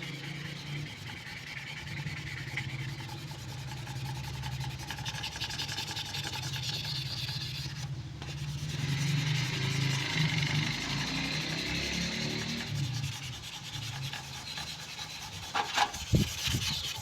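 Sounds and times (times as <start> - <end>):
sandpaper rubbing rasp: 0.0 - 17.0.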